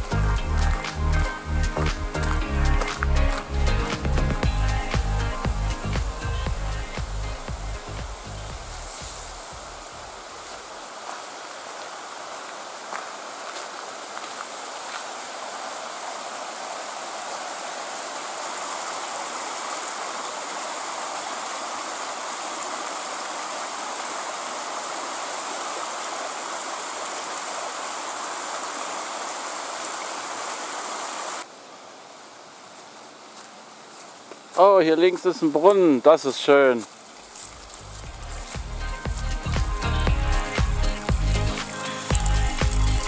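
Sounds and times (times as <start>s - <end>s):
mountain stream rushing: 0.0s - 43.0s.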